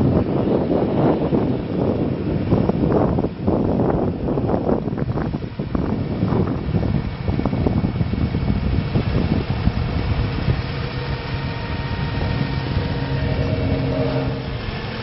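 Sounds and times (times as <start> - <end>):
diesel engine running: 0.0 - 15.0
mechanical hum: 0.0 - 15.0
wind buffeting microphone: 0.0 - 15.0.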